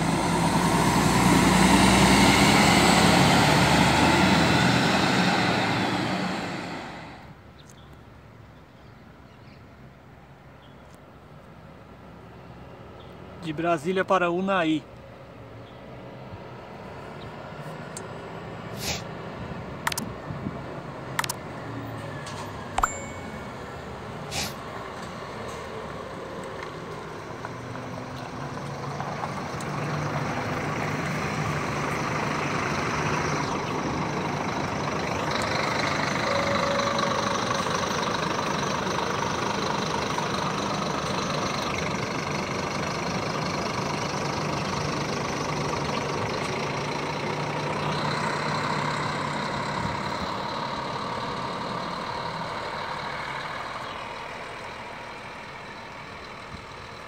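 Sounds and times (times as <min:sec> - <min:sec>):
bus diesel engine driving past: 0:00.0 - 0:07.6, 0:11.6 - 0:57.0.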